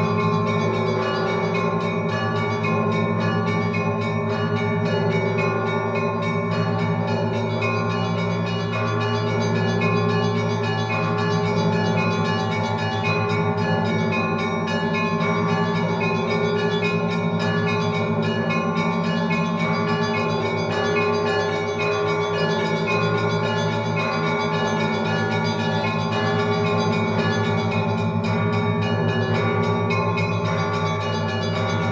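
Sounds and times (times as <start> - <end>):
high church bells ringing: 0.0 - 31.9
low hum of large bells: 0.0 - 31.9.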